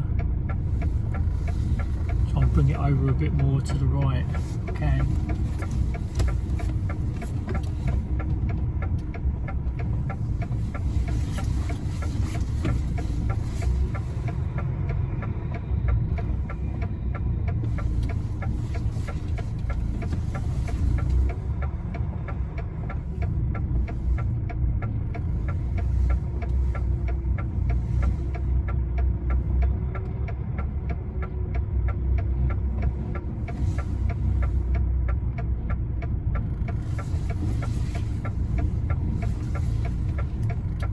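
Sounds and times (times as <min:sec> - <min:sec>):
diesel truck engine rumbling: 0:00.0 - 0:40.9.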